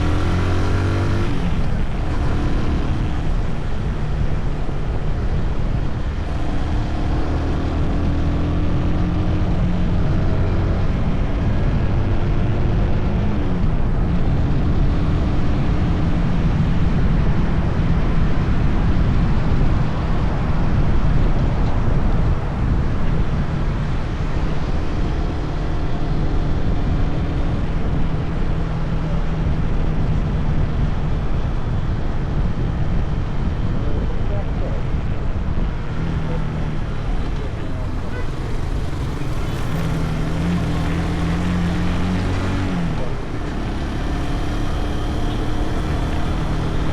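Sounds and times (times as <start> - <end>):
motorcycle engine running: 0.0 - 18.3, 22.6 - 46.9
wind rushing over microphone: 0.0 - 46.9.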